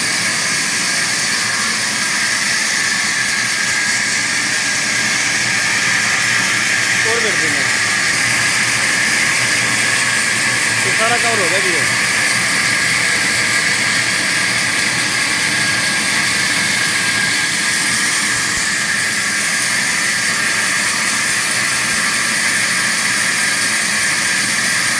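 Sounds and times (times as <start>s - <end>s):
band saw running: 0.0s - 24.9s.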